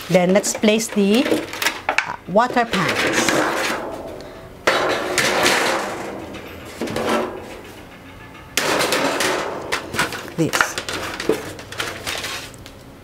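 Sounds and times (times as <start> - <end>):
foil pans rattling: 0.0 - 7.8, 8.6 - 12.6
loud clatter: 0.4 - 7.8, 8.6 - 12.3.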